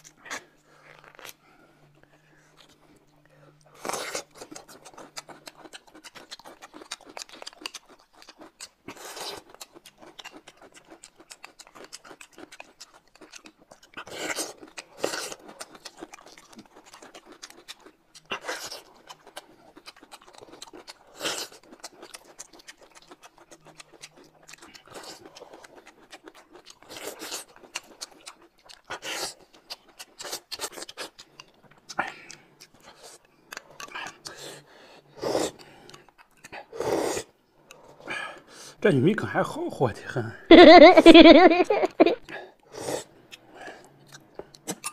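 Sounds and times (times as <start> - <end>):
chewing and mouth smacking: 0.0 - 36.8, 43.0 - 44.9.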